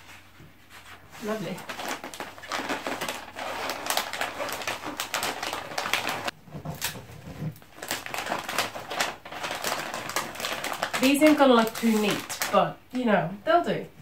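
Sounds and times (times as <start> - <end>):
wrapping paper crinkling: 1.2 - 12.6.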